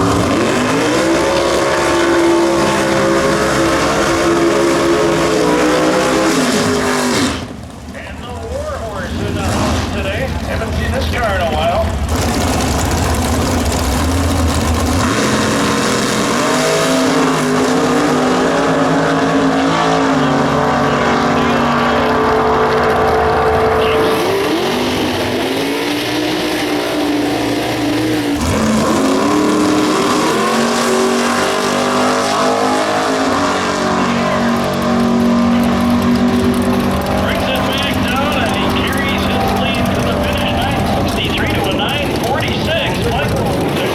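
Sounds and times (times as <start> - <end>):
car engines accelerating hard: 0.0 - 43.9.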